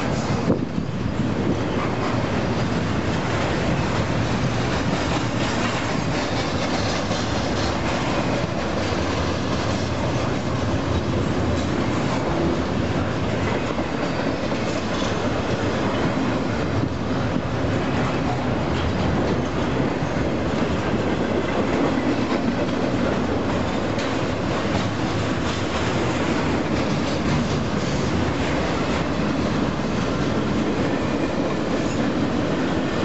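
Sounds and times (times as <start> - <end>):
train wheels rolling on rail: 0.0 - 33.0.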